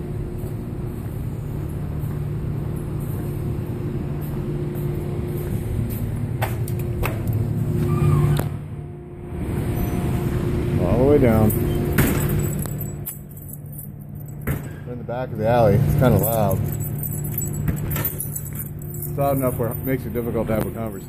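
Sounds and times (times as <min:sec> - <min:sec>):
distant machinery humming: 0:00.0 - 0:21.0.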